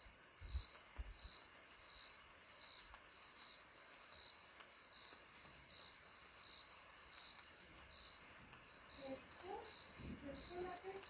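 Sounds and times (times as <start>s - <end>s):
crickets chirping: 0.0s - 11.0s
high insect pulse: 0.0s - 11.0s.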